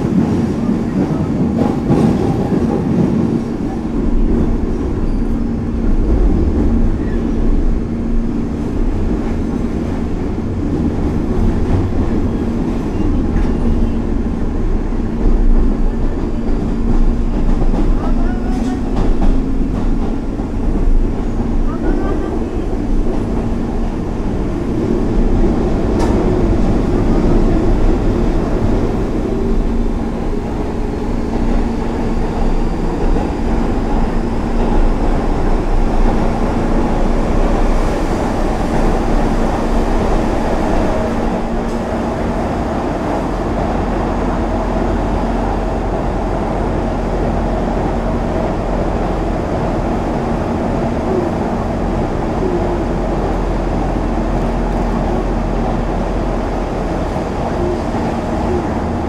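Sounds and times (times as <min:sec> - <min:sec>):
passing train: 0:00.0 - 0:59.0
train wheels rumbling on rail: 0:00.0 - 0:59.0.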